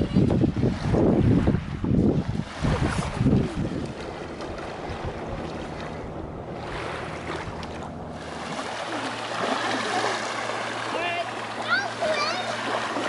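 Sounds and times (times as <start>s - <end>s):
wind on microphone: 0.0s - 10.7s
distant motorboat engine drone: 0.0s - 13.0s
small waves lapping at shore: 0.0s - 13.0s.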